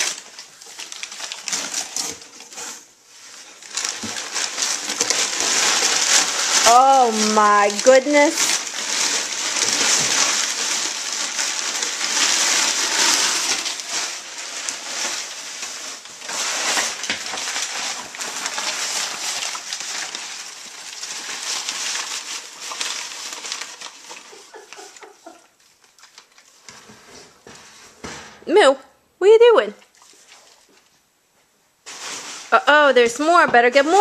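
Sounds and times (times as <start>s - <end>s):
paper crackling and rustling: 0.0s - 28.2s, 31.8s - 34.0s.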